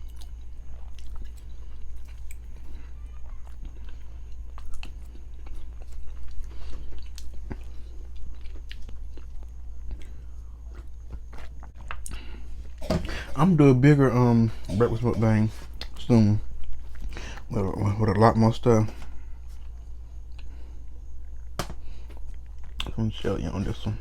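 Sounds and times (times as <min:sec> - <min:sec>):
person chewing food: 0:00.0 - 0:13.4, 0:14.5 - 0:17.5, 0:19.1 - 0:23.0
steady low hum: 0:00.0 - 0:24.0.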